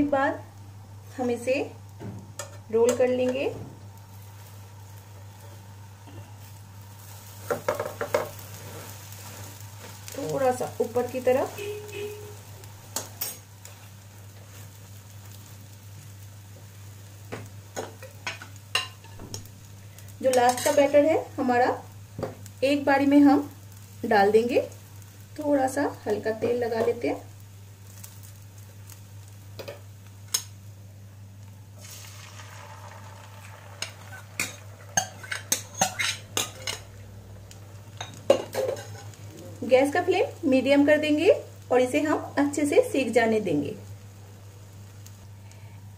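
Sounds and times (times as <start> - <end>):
omelette sizzling in a pan: 0.0 - 45.9.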